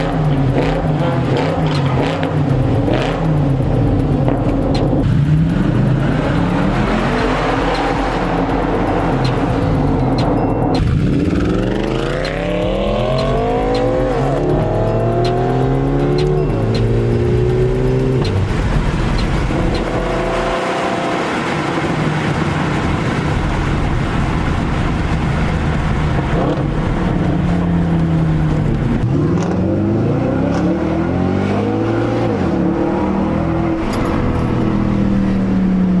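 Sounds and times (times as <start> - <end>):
car exhaust accelerating hard: 0.0 - 36.0.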